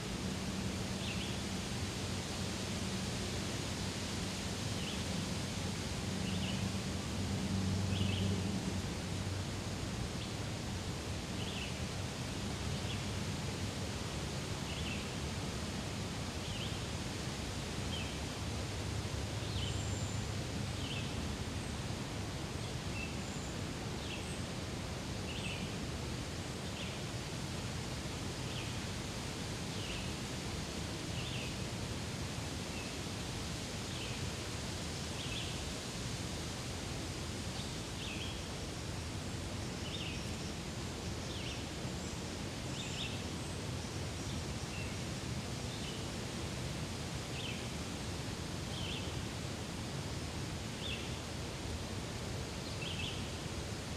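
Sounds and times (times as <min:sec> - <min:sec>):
leaves rustling in wind: 0:00.0 - 0:53.9.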